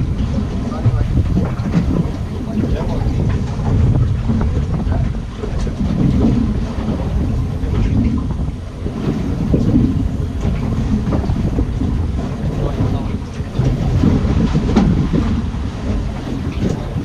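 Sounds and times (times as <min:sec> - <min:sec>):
choppy sea: 0:00.0 - 0:17.0
wind buffeting microphone: 0:00.0 - 0:17.0.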